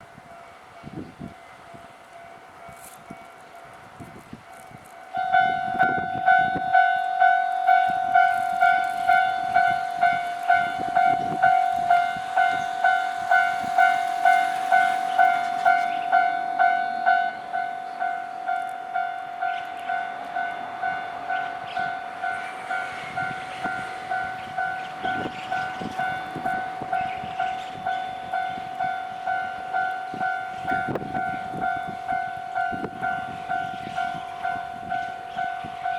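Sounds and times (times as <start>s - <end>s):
level-crossing warning bell ringing: 0.0s - 35.9s.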